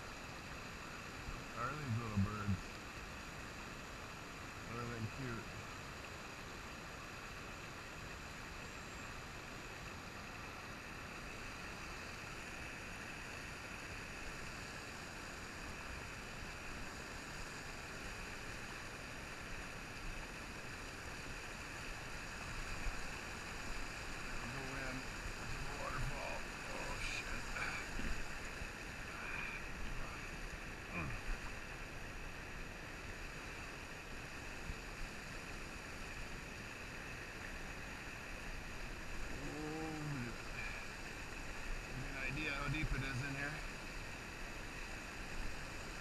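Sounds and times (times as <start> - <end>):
stream rapids rushing over rock: 0.0 - 46.0.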